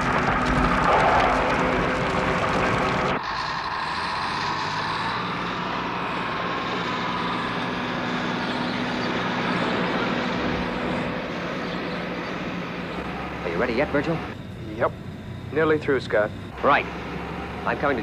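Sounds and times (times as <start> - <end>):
machine drone with low tones: 0.0 - 18.0.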